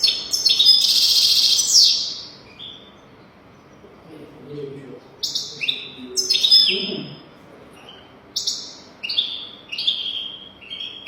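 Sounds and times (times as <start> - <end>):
goldfinch twittering song: 0.0 - 3.8, 5.2 - 7.2, 7.9 - 11.0.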